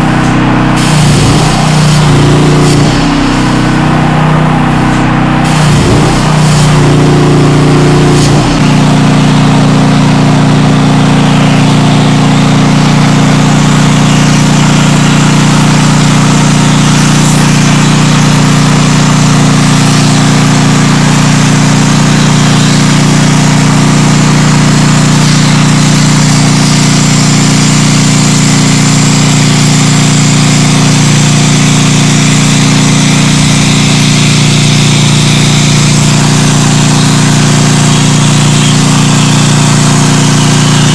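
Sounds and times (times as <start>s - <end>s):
plasma cutter humming and hissing: 0.0s - 40.9s.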